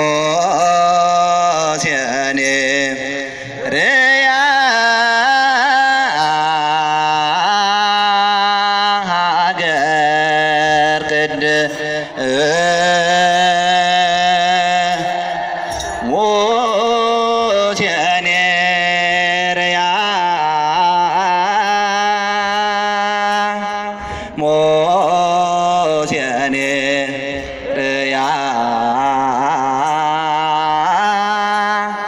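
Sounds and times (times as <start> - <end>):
religious chant over loudspeaker: 0.0 - 32.0.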